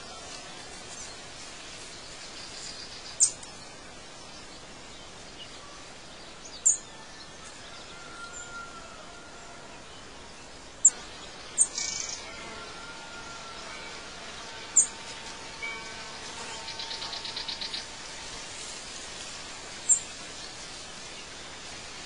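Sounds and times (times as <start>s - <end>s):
birds chirping: 0.0s - 6.9s, 9.2s - 22.0s
outdoor background hiss: 0.0s - 22.0s.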